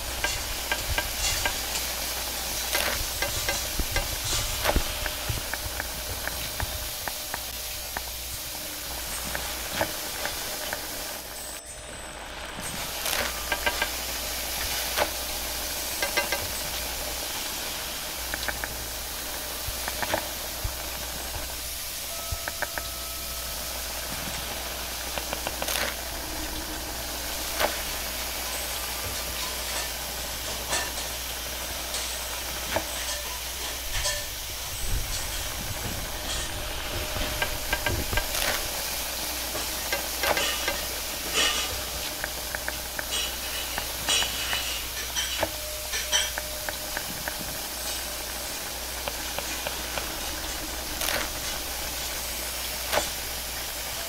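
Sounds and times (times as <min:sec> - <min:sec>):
noodles frying in wok: 0:00.0 - 0:54.0.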